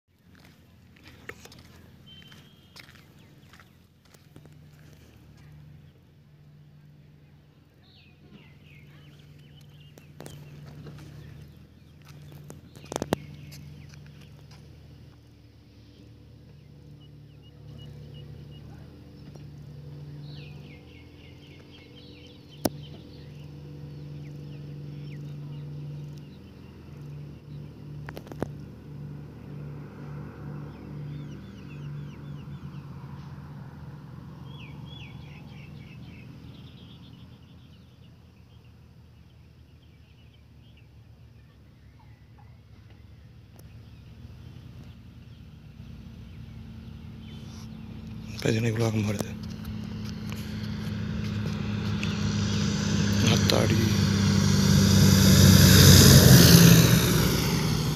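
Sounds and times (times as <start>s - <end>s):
propeller aircraft engine droning: 0.1s - 42.2s, 42.8s - 57.9s
birds chirping: 0.1s - 57.9s.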